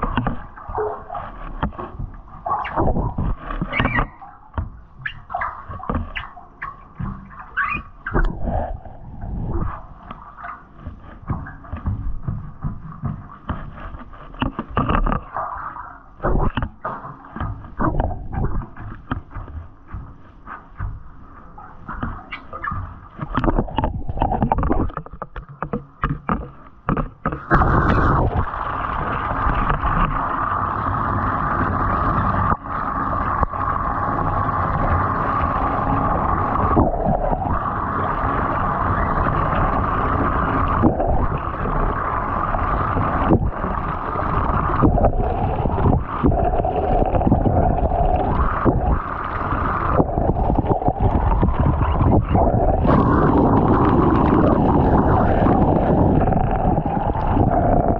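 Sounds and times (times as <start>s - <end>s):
muffled running water: 0.0s - 57.9s
water splashing in a bathtub: 0.0s - 57.9s.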